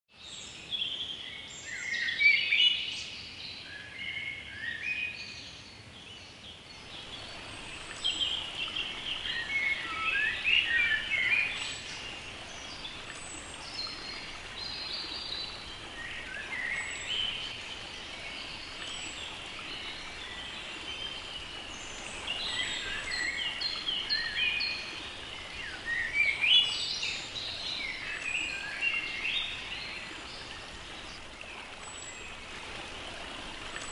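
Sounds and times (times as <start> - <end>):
songbirds singing: 0.1 - 33.9
stream water flowing: 0.1 - 33.9.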